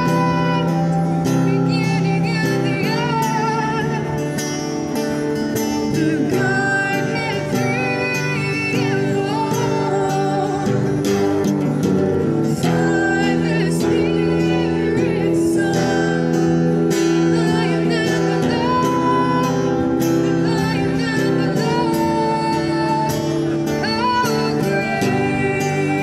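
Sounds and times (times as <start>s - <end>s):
acoustic guitar: 0.0s - 26.0s
woman singing: 0.0s - 26.0s.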